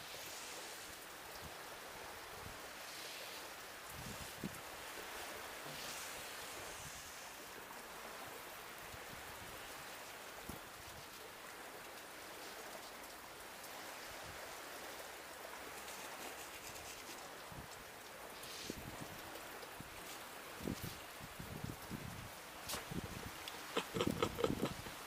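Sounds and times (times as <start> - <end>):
waves washing on sand: 0.0 - 25.0
wind: 0.0 - 25.0.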